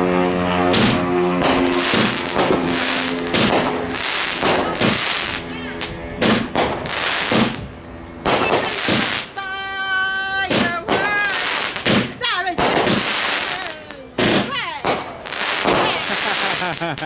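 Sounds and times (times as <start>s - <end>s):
fireworks shots firing: 0.6s - 17.0s.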